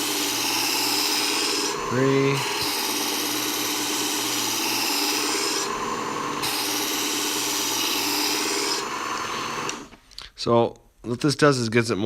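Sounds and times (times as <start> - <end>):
electric knife sharpener grinding: 0.0 - 10.0.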